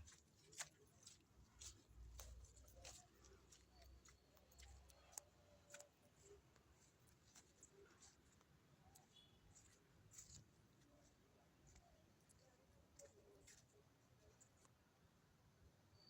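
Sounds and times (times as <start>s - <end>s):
faint clicks and ticks: 0.0s - 14.8s.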